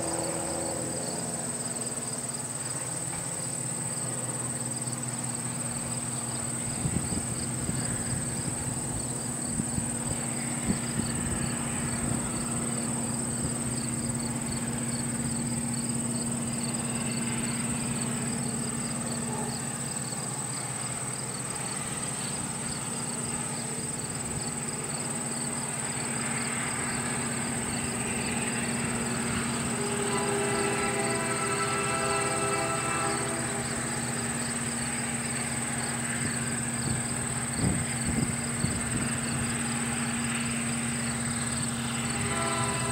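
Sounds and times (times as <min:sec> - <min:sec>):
locomotive horn: 0:00.0 - 0:01.6, 0:05.5 - 0:24.9, 0:25.8 - 0:42.9
diesel locomotives humming: 0:00.0 - 0:42.9
insects chirping: 0:00.0 - 0:42.9.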